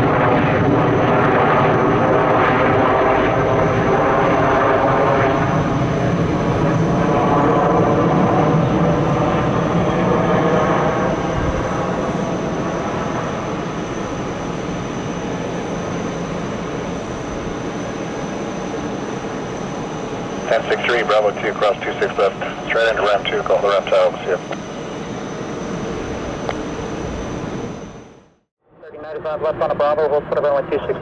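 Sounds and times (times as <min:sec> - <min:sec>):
jet airliner engines: 0:00.0 - 0:31.0.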